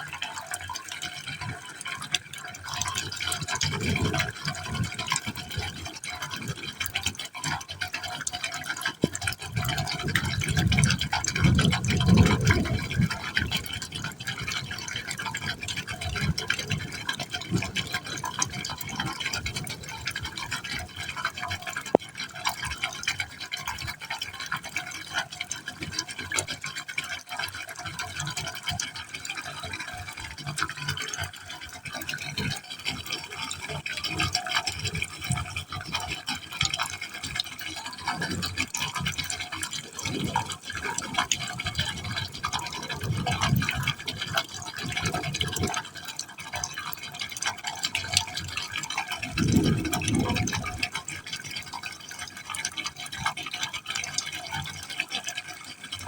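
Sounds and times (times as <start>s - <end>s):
water splashing into pipe: 0.0s - 56.0s.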